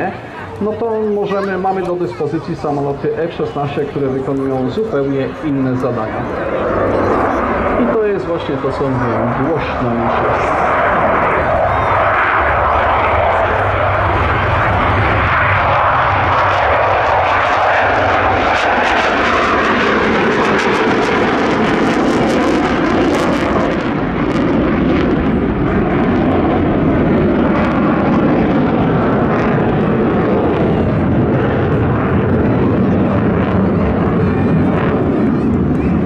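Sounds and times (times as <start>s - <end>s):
jet engine roaring at takeoff: 0.0s - 36.0s.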